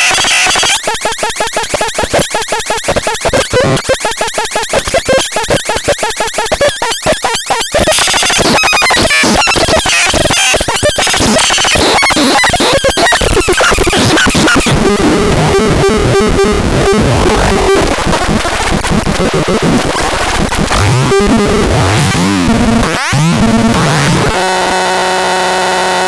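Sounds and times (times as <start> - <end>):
harsh crackling electronic noise: 0.0 - 26.0.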